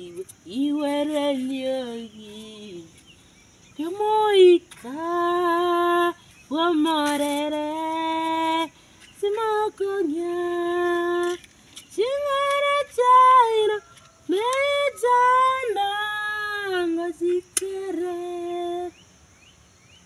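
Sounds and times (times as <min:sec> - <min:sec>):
woman singing unaccompanied: 0:00.0 - 0:19.1.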